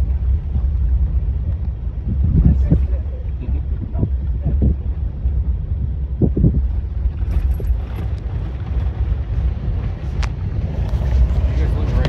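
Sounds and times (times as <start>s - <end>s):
vehicle engine and road noise: 0.0s - 12.0s
wind on microphone: 0.0s - 12.0s.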